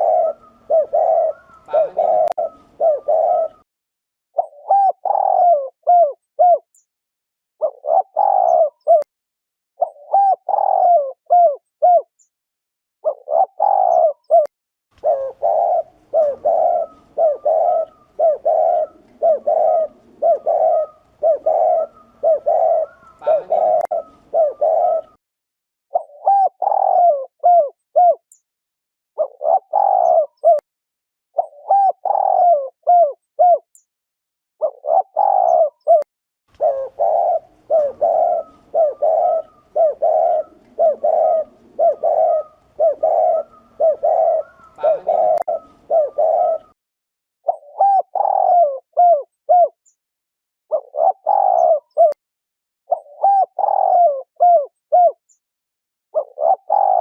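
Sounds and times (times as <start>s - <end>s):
doves cooing: 0.0s - 3.6s, 4.4s - 6.6s, 7.6s - 9.1s, 9.8s - 12.1s, 13.0s - 25.2s, 25.9s - 28.2s, 29.2s - 30.6s, 31.4s - 33.6s, 34.6s - 46.8s, 47.5s - 49.7s, 50.7s - 52.2s, 52.9s - 55.2s, 56.2s - 57.0s.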